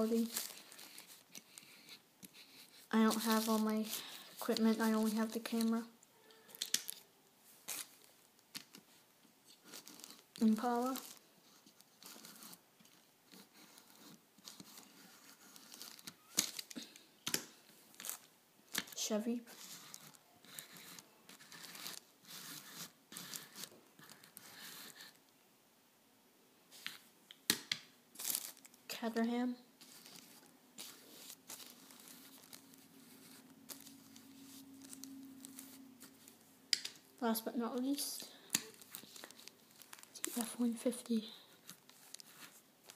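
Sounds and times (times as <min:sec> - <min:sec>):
plastic crinkling: 0:00.0 - 0:25.2, 0:28.1 - 0:29.2, 0:29.8 - 0:42.9
faint steady hum: 0:00.0 - 0:42.9.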